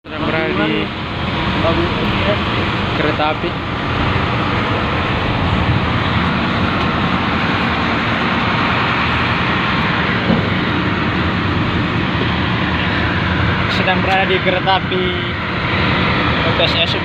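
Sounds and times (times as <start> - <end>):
locomotive engine drone: 0.0 - 17.0.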